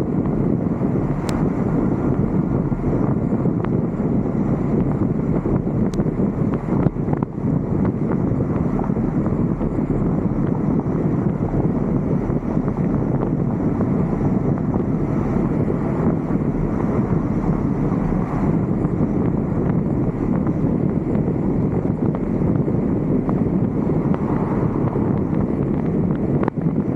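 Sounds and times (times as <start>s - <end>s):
vehicle road noise: 0.0s - 26.9s
wind rushing over microphone: 0.0s - 26.9s.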